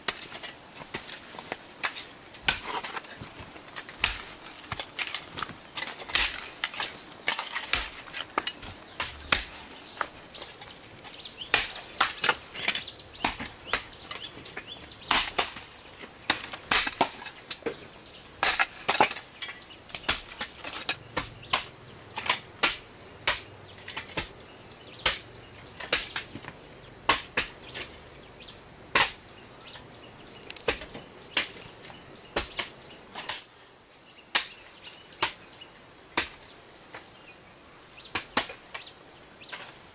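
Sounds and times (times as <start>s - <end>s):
faint high insect drone: 0.0s - 39.9s.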